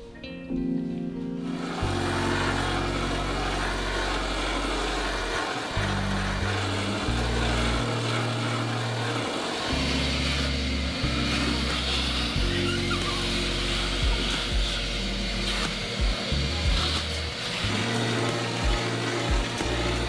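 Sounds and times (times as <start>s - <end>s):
background music with bass: 0.0s - 9.0s, 9.6s - 20.0s
air tool rushing: 1.5s - 20.0s.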